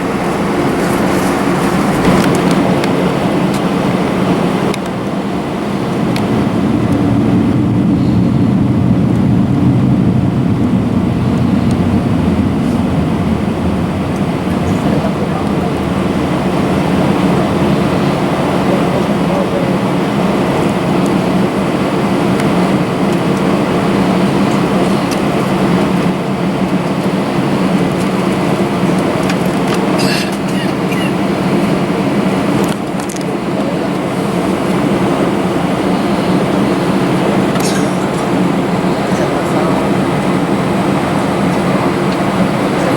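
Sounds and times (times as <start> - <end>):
jet engine cabin drone: 0.0 - 42.9.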